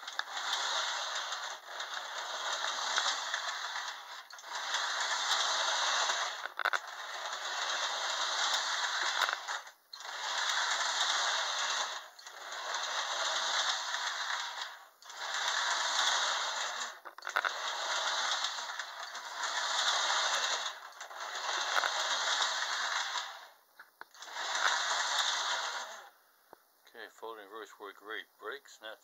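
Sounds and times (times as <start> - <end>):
toy train motor rattling on track: 0.0 - 26.2.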